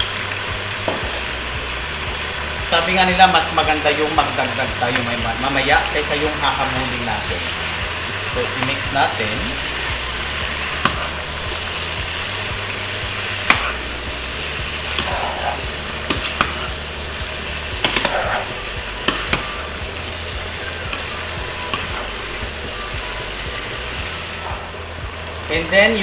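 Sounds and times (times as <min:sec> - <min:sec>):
food sizzling in a pot: 0:00.0 - 0:26.0.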